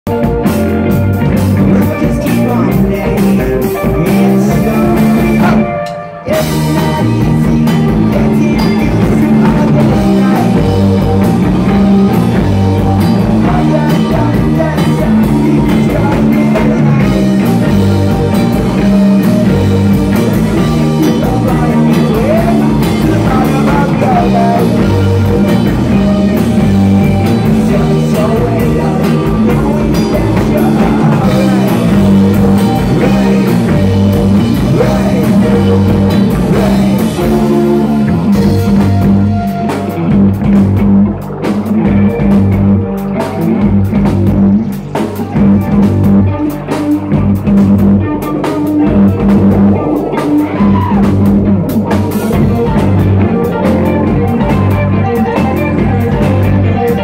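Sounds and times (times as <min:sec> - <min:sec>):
distorted electric guitars: 0:00.0 - 0:57.0
drum kit: 0:00.0 - 0:57.0
person singing: 0:00.1 - 0:40.3, 0:44.5 - 0:57.0.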